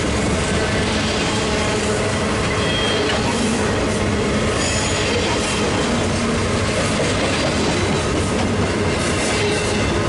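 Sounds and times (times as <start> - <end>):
steel wheels running over rails: 0.0 - 10.0.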